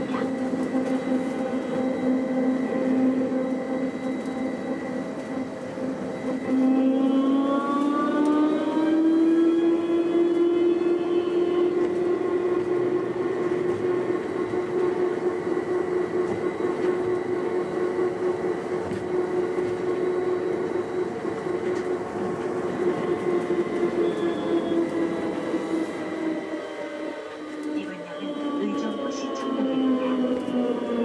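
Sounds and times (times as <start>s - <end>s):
train motor whine: 0.0s - 31.0s
train rolling noise: 0.0s - 31.0s.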